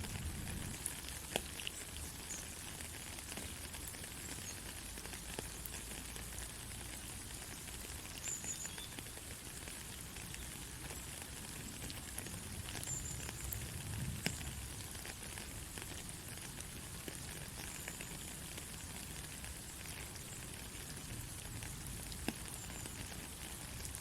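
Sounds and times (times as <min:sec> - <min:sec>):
soft rain falling: 0:00.0 - 0:24.0.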